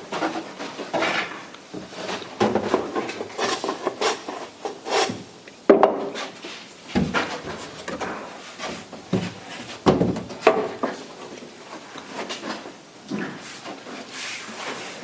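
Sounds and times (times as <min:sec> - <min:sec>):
scraping and rubbing on wood: 0:00.0 - 0:15.0.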